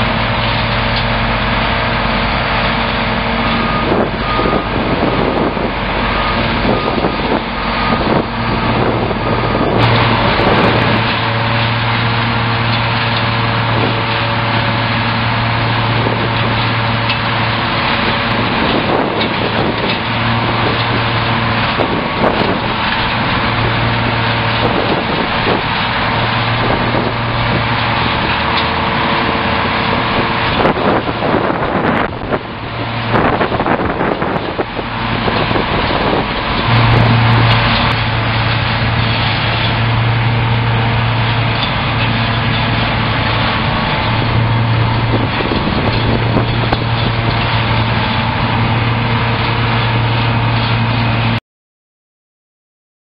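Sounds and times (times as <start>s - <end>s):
hay shredding in grinder: 0.0s - 51.4s
machine hum: 0.0s - 51.4s.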